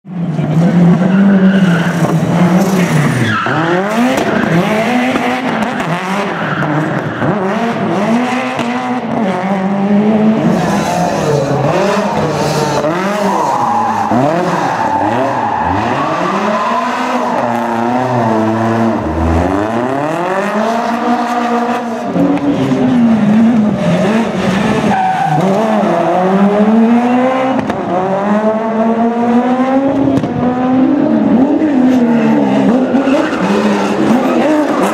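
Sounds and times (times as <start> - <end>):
rally car engine revving: 0.1 - 34.9.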